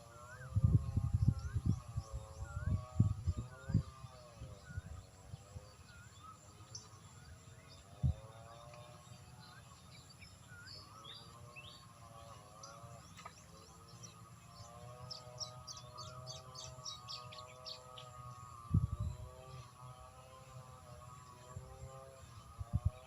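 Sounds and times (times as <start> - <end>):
birds chirping: 0.0 - 23.0
faint steady hum: 0.0 - 23.0.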